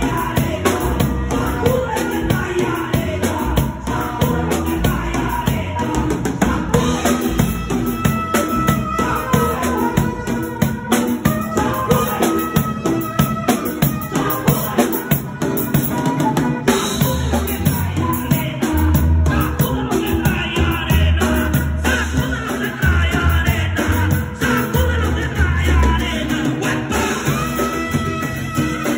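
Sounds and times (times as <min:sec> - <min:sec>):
drum kit with cymbals: 0:00.0 - 0:28.9
saxophone line: 0:00.0 - 0:28.9.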